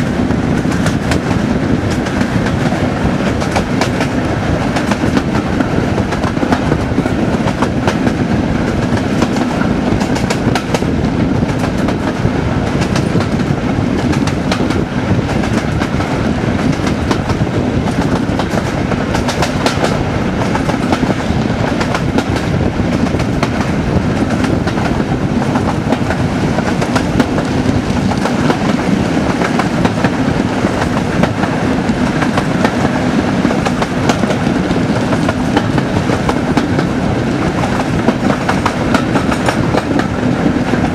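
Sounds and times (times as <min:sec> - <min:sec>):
diesel locomotive engine drone: 0:00.0 - 0:40.9
wind rushing past: 0:00.0 - 0:40.9.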